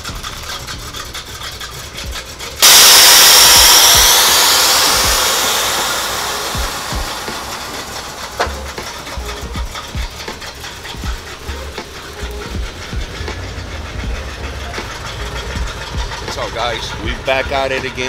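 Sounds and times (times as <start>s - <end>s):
loud rushing hiss: 2.6s - 18.0s.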